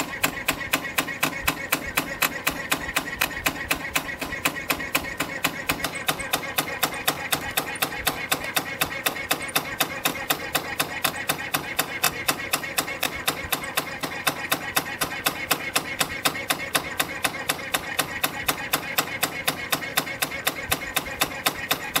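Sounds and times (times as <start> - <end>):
sharp metallic clicks: 0.0 - 22.0
steady machine noise: 0.0 - 22.0.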